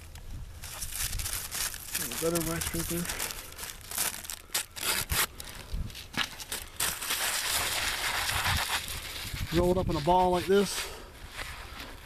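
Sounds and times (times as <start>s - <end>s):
wax paper crackling and crumpling: 0.6s - 12.0s.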